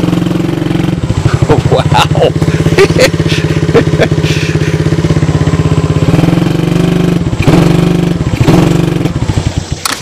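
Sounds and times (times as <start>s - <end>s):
atv engine revving and straining: 0.0s - 10.0s.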